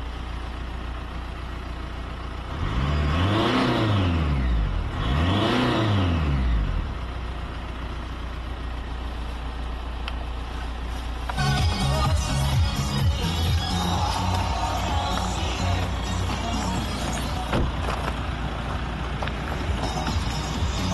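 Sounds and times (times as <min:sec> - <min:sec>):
diesel car engine idling and revving: 0:00.0 - 0:20.9.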